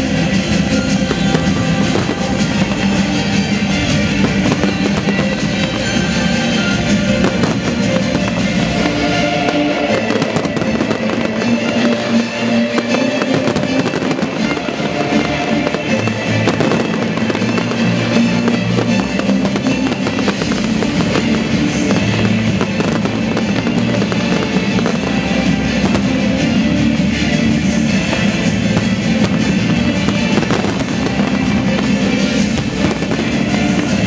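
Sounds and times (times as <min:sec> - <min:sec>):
fireworks bursting and crackling: 0:00.0 - 0:34.0
loud music: 0:00.0 - 0:34.0.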